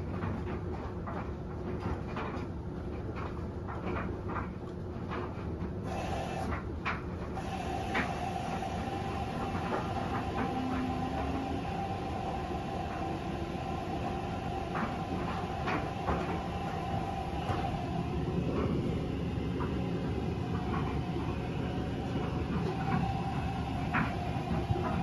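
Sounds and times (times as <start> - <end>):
laundry tumbling clicks and knocks: 0.0 - 5.9, 6.5 - 25.0
washing machine running: 0.0 - 25.0.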